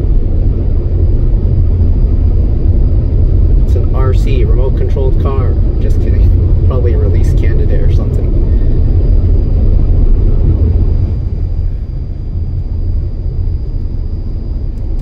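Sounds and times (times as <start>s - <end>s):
faint high whine: 0.0s - 15.0s
road and tyre rumble in car: 0.0s - 15.0s.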